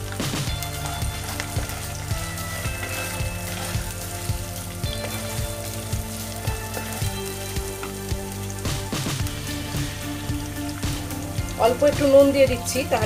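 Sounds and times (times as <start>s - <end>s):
wooden spatula stirring: 0.0s - 11.8s
onions sizzling in hot oil: 0.0s - 13.0s.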